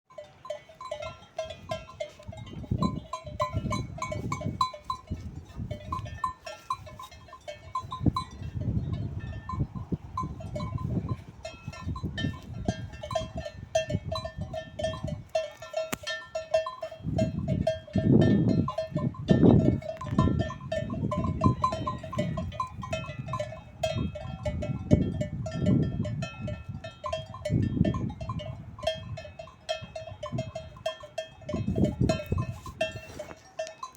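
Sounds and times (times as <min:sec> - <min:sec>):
sheep bells clanking: 0:00.1 - 0:33.9.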